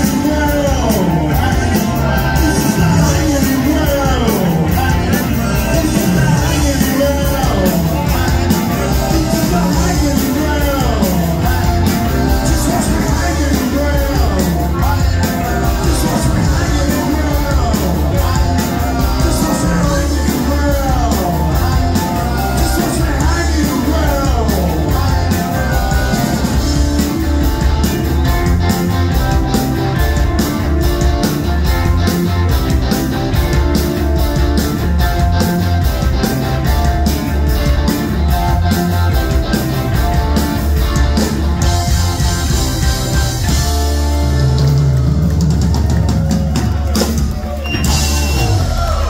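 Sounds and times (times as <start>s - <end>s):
drum kit fast beat: 0.0s - 49.0s
rock band playing loud: 0.0s - 49.0s.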